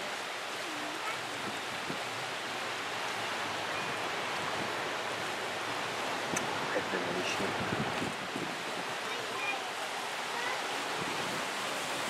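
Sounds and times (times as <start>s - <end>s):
choppy sea water: 0.0s - 12.0s.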